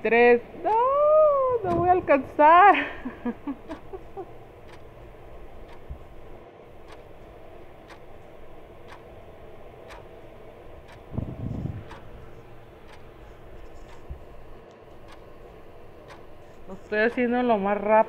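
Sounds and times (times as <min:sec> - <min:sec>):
even ticking: 0:00.0 - 0:18.0
low room hum: 0:00.0 - 0:18.0.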